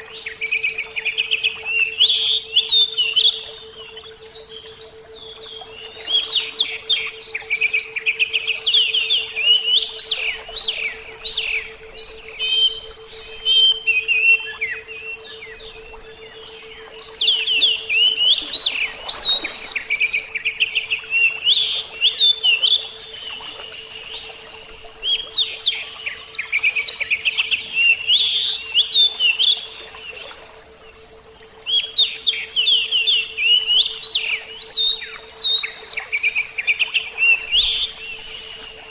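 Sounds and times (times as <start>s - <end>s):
bird singing whistles and chirps: 0.0s - 30.3s, 31.6s - 38.9s
faint steady hum: 0.0s - 38.9s.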